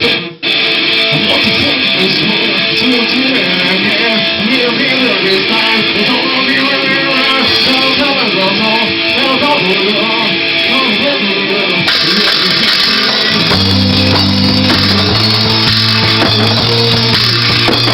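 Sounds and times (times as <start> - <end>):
electric guitar bending notes: 0.0 - 17.9
rock band playing live: 0.0 - 17.9.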